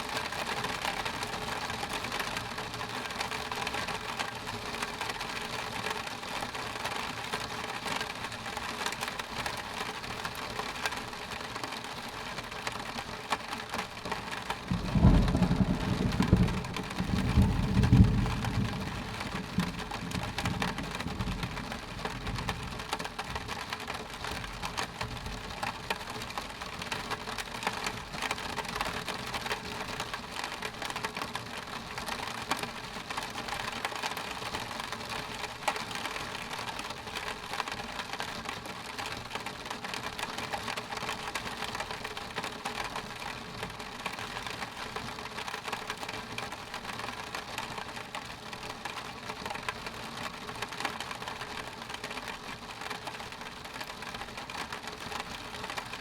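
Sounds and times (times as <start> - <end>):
rain hitting window glass: 0.1 - 56.0.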